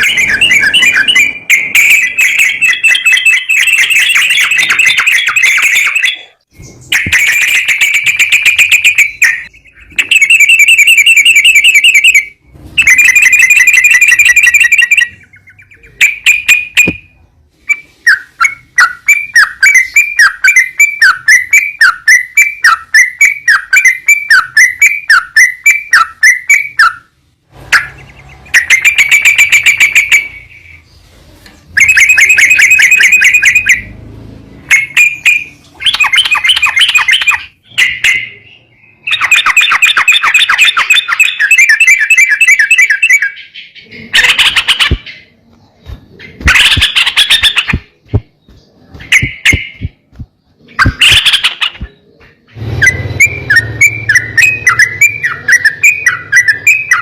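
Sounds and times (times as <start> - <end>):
repeated swooping bird notes: 0.0 - 30.9, 31.8 - 45.4, 46.3 - 57.0
bird song with buzzy trills: 0.0 - 57.0.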